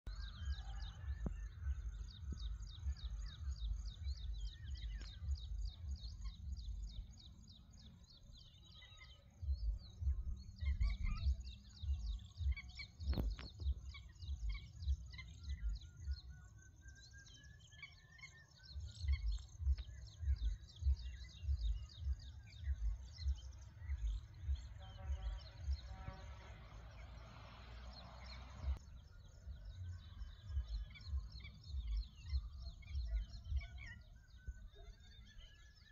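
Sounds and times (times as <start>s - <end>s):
wind rumble on microphone: 0.1s - 8.6s, 9.2s - 16.5s, 18.6s - 35.9s
birds chirping and calling: 0.1s - 35.9s.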